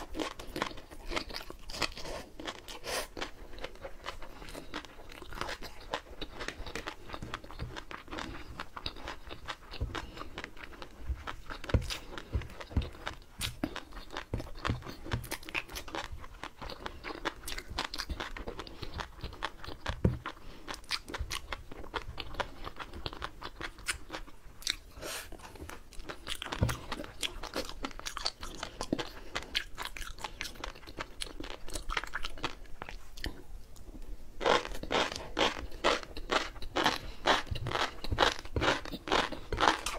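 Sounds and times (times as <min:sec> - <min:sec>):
chewing crunchy fish roe: 0:00.0 - 0:39.9.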